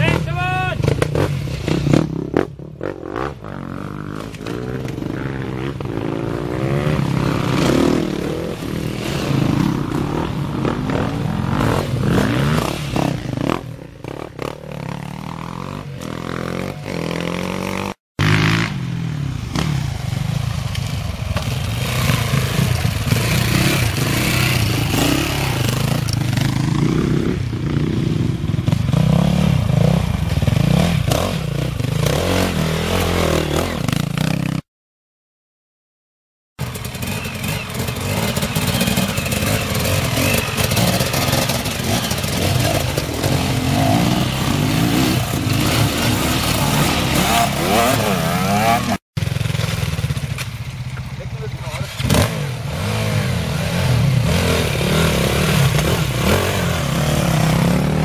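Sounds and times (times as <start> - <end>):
dirt bike engines revving: 0.0 - 34.6, 36.6 - 58.0.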